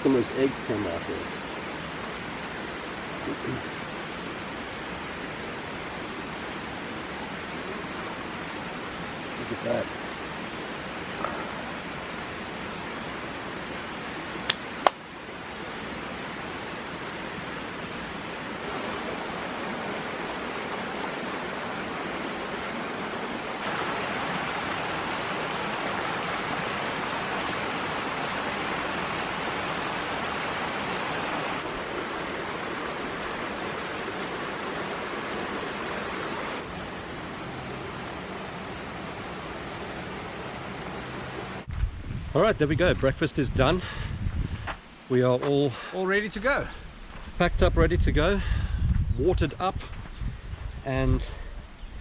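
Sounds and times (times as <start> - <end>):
stream water rushing: 0.0 - 41.7.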